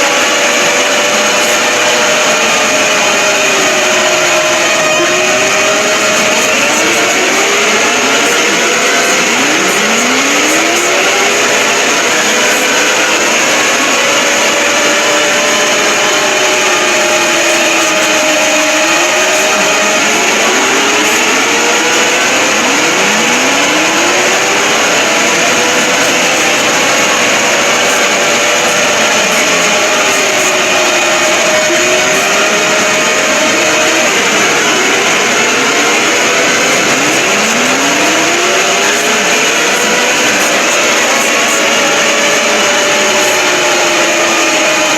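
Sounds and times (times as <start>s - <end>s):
distorted siren tones: 0.0s - 44.9s
harsh noise: 0.0s - 44.9s.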